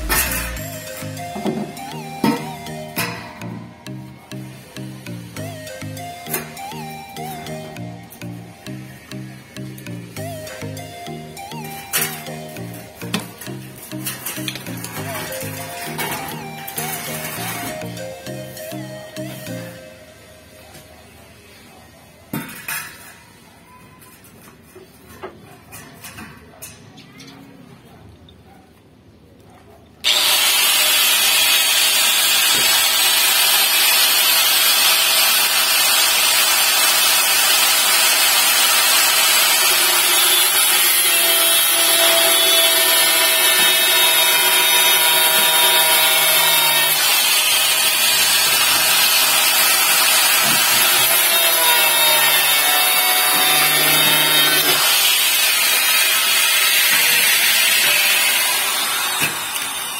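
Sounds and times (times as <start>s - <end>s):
angle grinder whining on metal: 0.0s - 19.9s, 30.0s - 59.9s.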